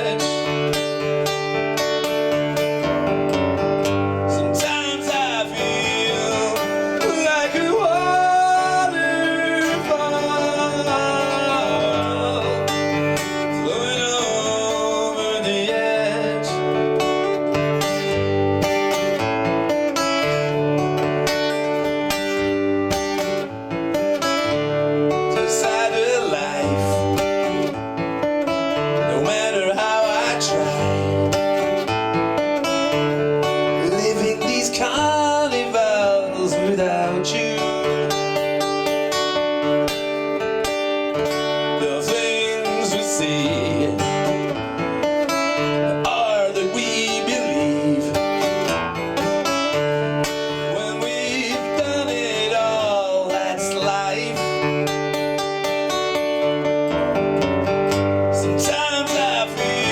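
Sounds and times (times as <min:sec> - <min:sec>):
acoustic guitar song: 0:00.0 - 0:59.9.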